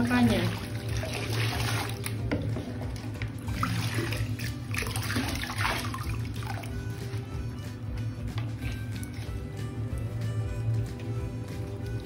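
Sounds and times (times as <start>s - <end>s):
water sloshing in bathtub: 0.0s - 12.0s.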